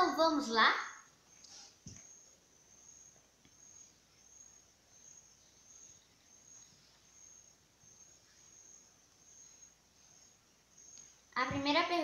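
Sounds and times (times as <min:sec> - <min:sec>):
pulsing high-pitched trill: 0:01.0 - 0:12.0.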